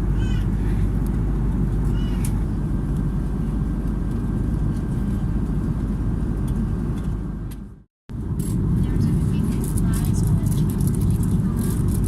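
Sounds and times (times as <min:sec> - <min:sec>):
vehicle rumble from inside: 0:00.0 - 0:12.0.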